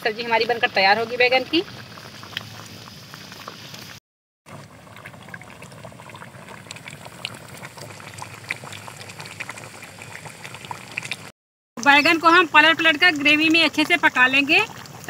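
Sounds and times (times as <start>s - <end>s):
curry bubbling and popping: 0.0s - 15.0s.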